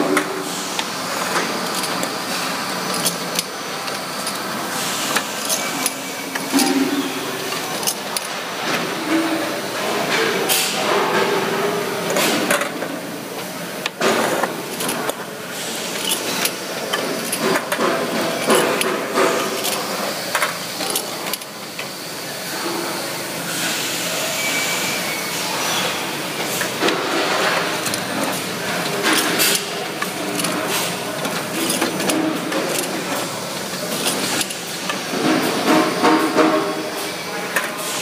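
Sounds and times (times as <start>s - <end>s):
machine clatter and hiss: 0.0s - 38.0s.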